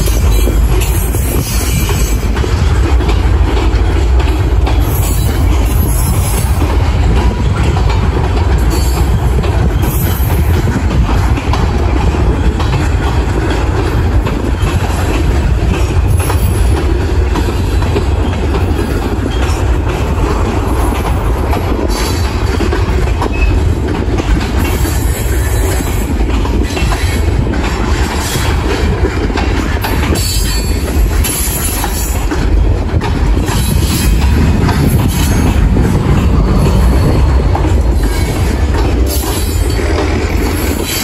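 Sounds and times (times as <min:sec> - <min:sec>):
freight train wheels rumbling: 0:00.0 - 0:41.0.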